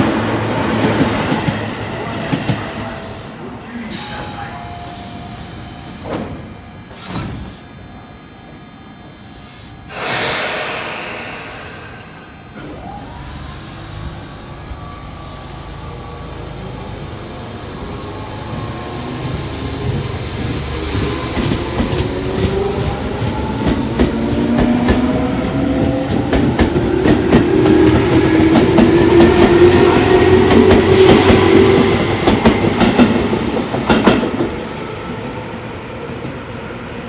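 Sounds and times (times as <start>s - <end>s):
train rumbling: 0.0s - 37.0s
air brakes hissing: 2.3s - 34.7s.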